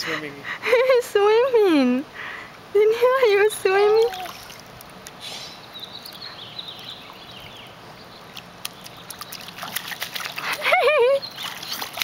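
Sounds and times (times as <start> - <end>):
pool water lapping and splashing: 0.0 - 12.0.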